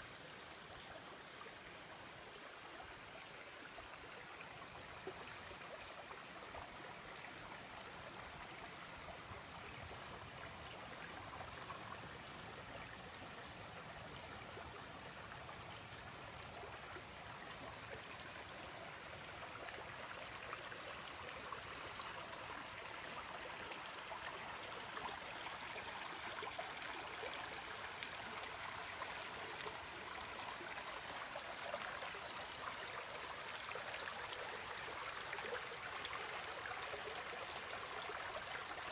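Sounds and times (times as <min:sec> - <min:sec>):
creek water running over rocks: 0:00.0 - 0:38.9.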